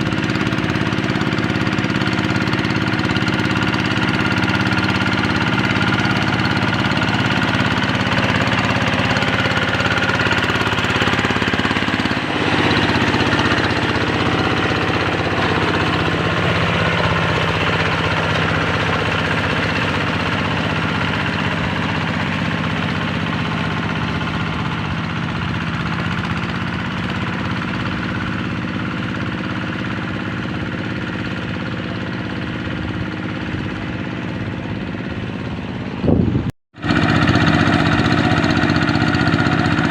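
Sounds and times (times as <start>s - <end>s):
diesel hand tractor engine knocking: 0.0s - 39.9s.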